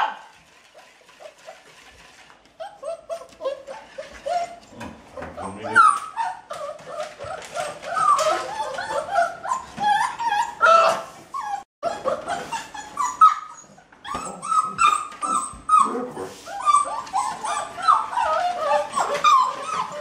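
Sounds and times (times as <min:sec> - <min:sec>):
puppies whining and yipping: 0:02.6 - 0:20.0.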